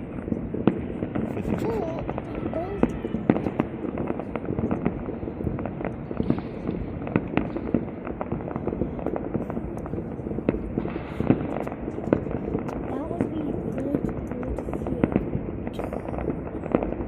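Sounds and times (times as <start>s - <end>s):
continuous rumble: 0.0s - 17.0s
fireworks bursting and crackling: 0.0s - 17.0s
sharp firework bangs: 0.0s - 17.0s.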